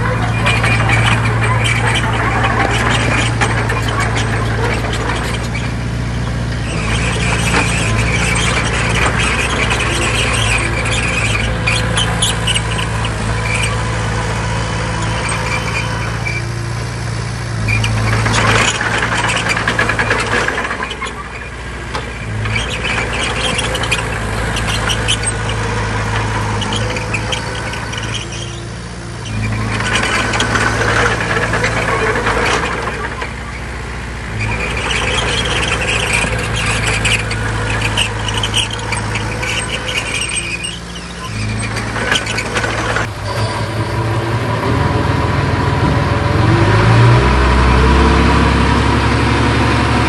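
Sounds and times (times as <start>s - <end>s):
high squeal: 0.0s - 48.5s
diesel engine running: 0.0s - 50.0s.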